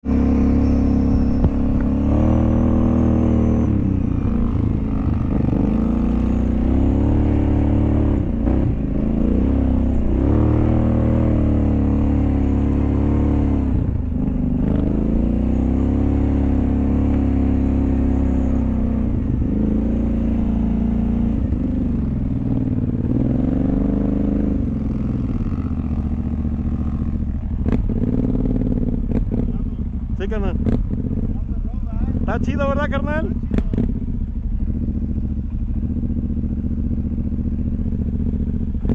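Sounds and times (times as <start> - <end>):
off-road vehicle engine revving: 0.0 - 36.4, 37.8 - 38.9.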